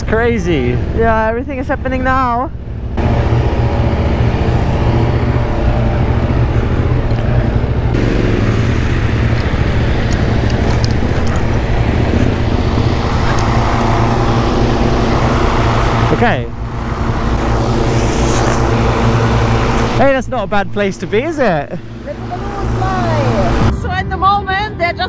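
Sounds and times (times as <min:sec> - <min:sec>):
motorcycle engine running: 0:00.0 - 0:23.7
wind and road noise: 0:00.0 - 0:25.0.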